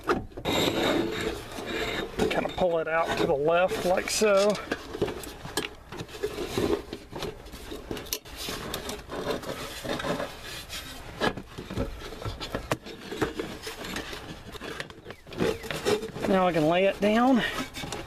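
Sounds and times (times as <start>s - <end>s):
metal plate scraping against carpet: 0.0s - 18.0s.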